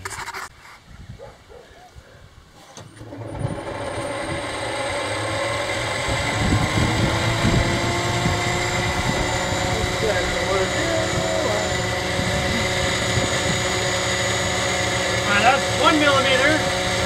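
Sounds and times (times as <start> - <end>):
thickness planer planing board: 3.0 - 17.0.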